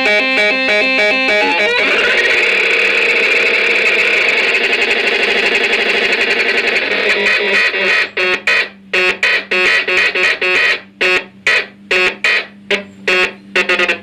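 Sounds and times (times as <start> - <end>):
buzzy staccato synth notes: 0.0 - 14.0.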